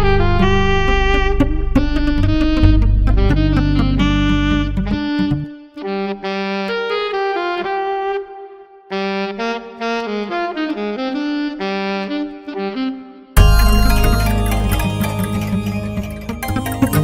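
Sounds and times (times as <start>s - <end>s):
saxophone playing slow jazz melody: 0.0s - 17.0s.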